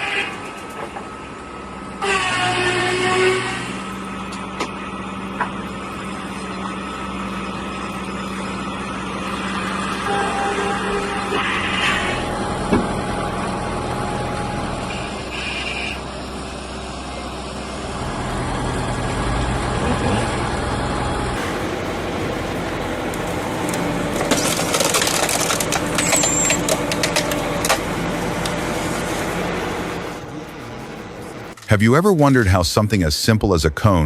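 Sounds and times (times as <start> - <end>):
machinery running: 0.0 - 33.1.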